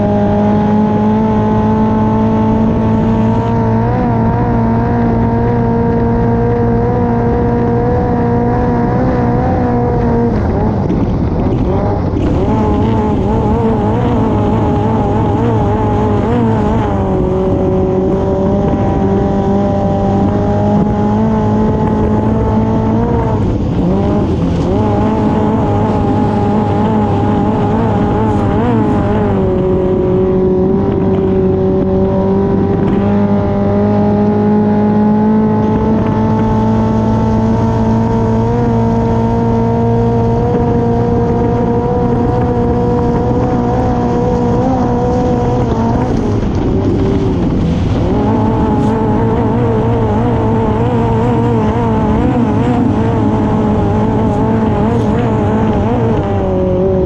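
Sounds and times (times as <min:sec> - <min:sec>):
racing boat engine at high revs: 0:00.0 - 0:57.0
rushing wind: 0:00.0 - 0:57.0.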